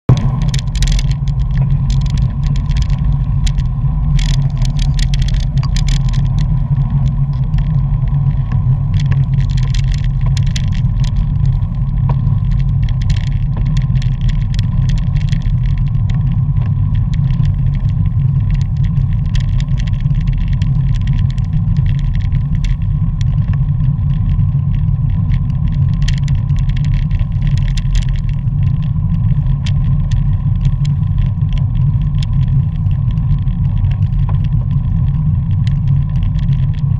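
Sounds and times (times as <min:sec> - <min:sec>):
wind and road rumble: 0:00.0 - 0:36.9
clicks and rattles over road: 0:00.1 - 0:36.9.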